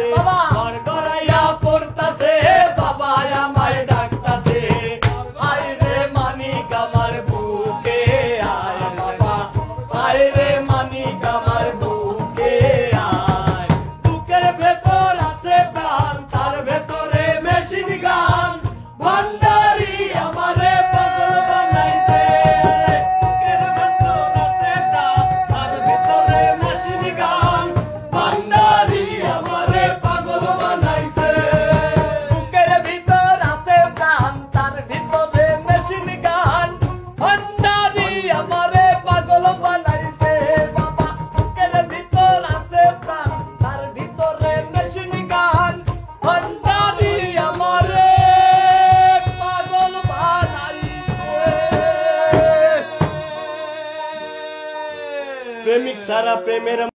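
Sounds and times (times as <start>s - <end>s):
steady drum beat: 0.0s - 54.0s
man singing: 0.0s - 56.9s.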